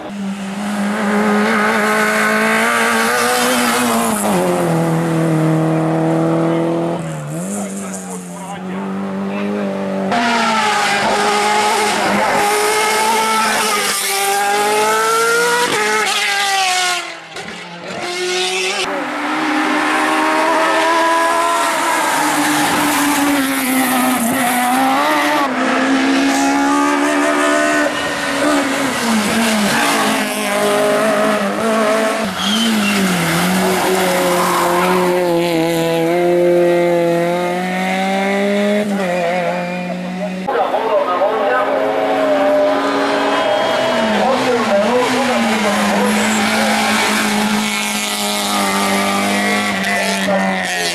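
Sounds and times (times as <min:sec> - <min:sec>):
race car engine revving: 0:00.0 - 0:50.9.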